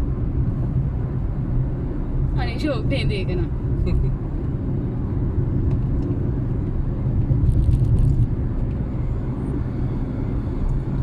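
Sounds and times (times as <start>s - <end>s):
car rumble: 0.0s - 11.0s.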